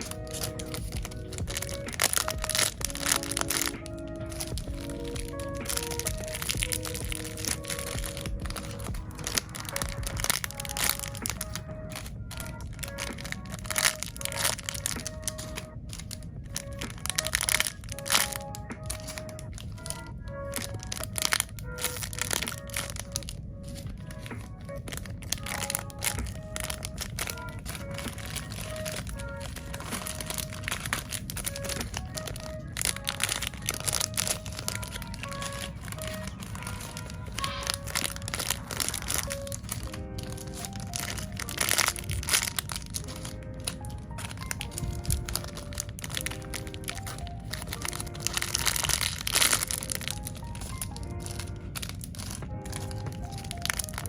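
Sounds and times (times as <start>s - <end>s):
light background music: 0.0s - 54.0s
plastic packaging crackling: 0.0s - 54.0s.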